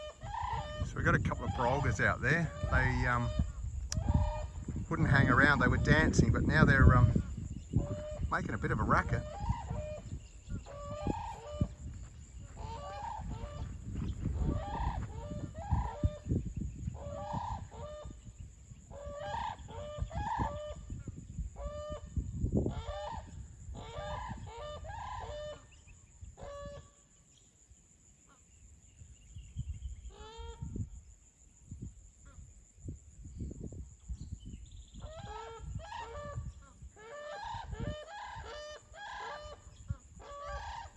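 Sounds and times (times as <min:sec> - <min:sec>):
cranes trumpeting calls: 0:00.0 - 0:27.3, 0:29.9 - 0:30.9, 0:34.8 - 0:40.9.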